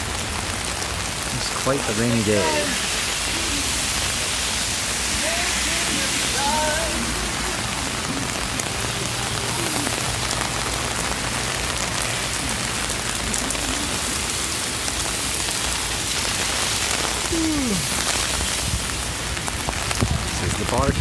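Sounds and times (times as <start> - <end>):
heavy rain on an umbrella: 0.0 - 21.0.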